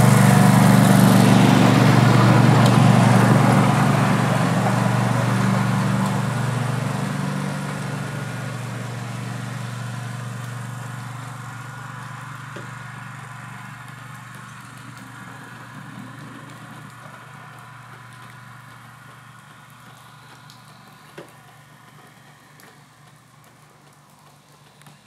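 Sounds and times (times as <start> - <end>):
small engine humming: 0.0 - 25.0.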